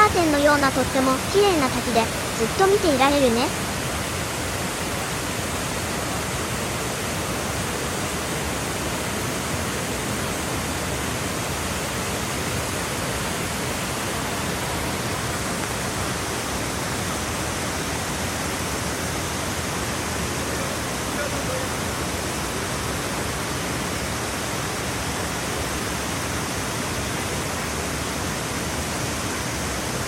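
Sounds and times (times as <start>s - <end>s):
waterfall splashing: 0.0s - 30.0s.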